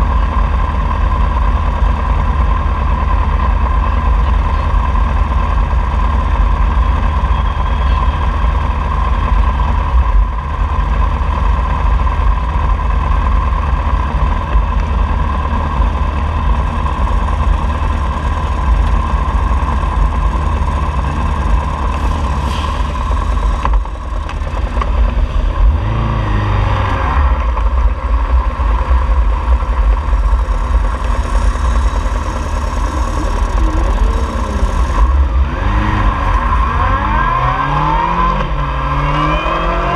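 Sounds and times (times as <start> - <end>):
motorcycle engines idling: 0.0 - 37.2
motorcycle engines revving: 0.0 - 39.9.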